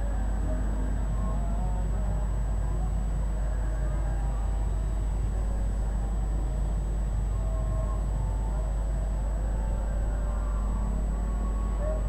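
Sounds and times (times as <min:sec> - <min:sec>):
constant low rumble: 0:00.0 - 0:12.0.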